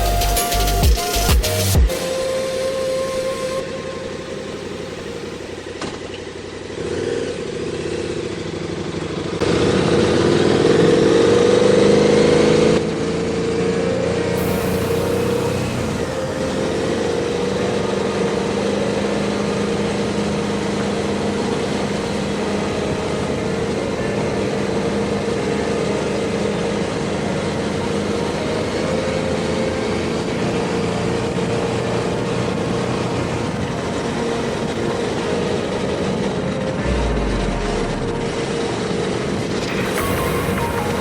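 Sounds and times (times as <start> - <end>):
motorcycle engine cruising: 3.5 - 41.0
wind and road noise: 3.7 - 41.0.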